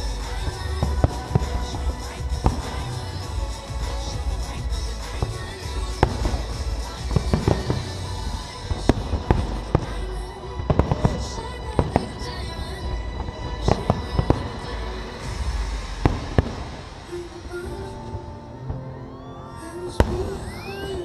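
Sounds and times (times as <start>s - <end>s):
steady low rumble: 0.0s - 18.8s
faint music: 0.0s - 21.0s
fireworks bursting: 0.0s - 21.0s.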